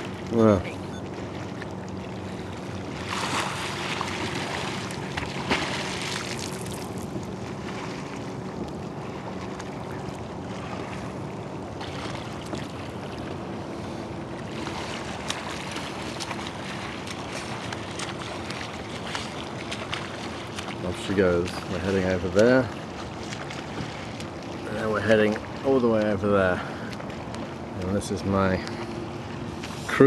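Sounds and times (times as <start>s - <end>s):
water lapping around boat: 0.0s - 30.0s.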